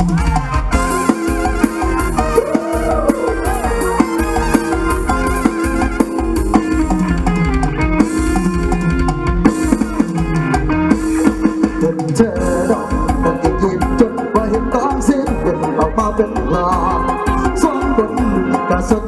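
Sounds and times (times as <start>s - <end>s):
drum kit beat: 0.0s - 19.0s
electric bass: 0.0s - 19.0s
electric plucked-string melody: 0.0s - 19.0s.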